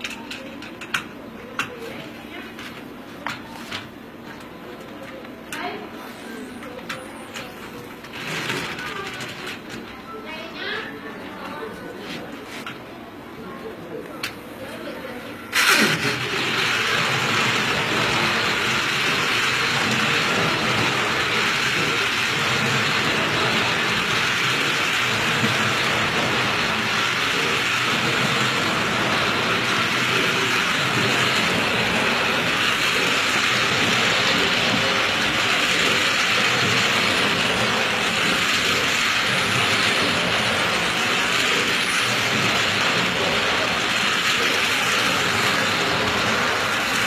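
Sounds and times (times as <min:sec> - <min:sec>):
toy train running on track: 0:00.0 - 0:10.8, 0:13.7 - 0:47.0.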